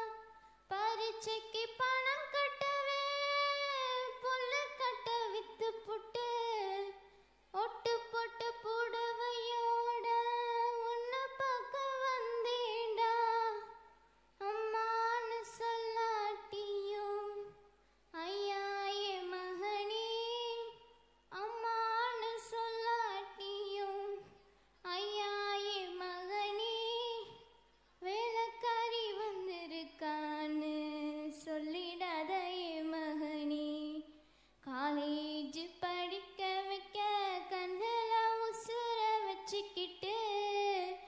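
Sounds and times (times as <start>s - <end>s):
girl singing into a microphone: 0.0s - 41.0s.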